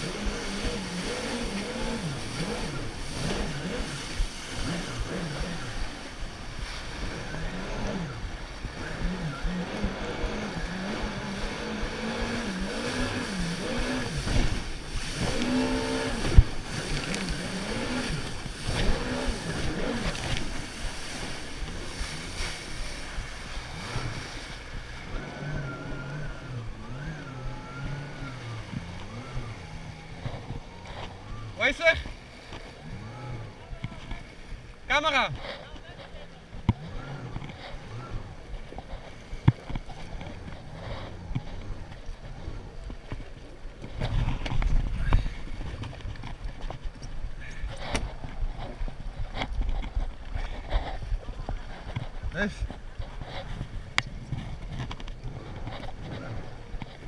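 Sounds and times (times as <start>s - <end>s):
wind on microphone: 0.0s - 31.6s, 32.8s - 57.0s
jet ski engine whine: 0.0s - 57.0s
water splashing: 0.0s - 57.0s.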